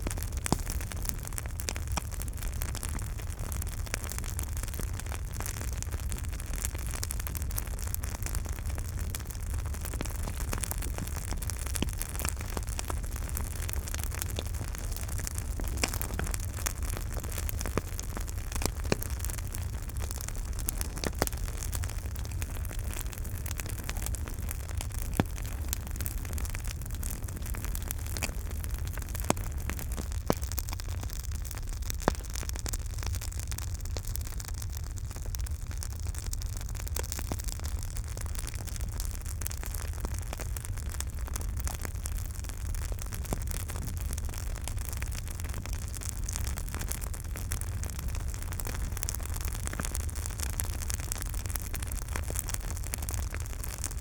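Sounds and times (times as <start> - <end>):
campfire flames hissing: 0.0 - 35.4, 36.2 - 54.0
fire crackling and popping: 0.0 - 54.0.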